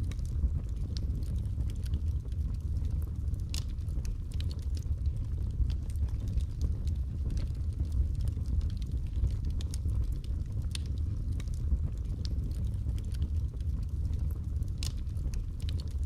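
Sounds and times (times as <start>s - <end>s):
fire flame rumble: 0.0s - 16.0s
wood crackling and popping: 0.0s - 16.0s.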